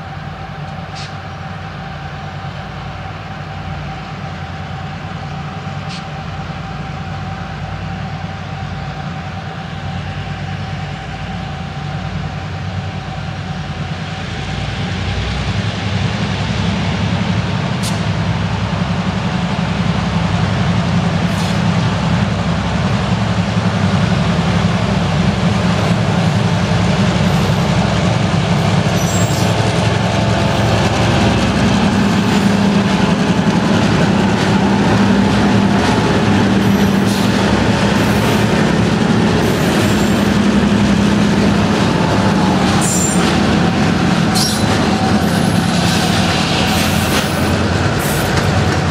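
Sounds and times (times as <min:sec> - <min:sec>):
diesel locomotive engines droning: 0:00.0 - 0:48.9.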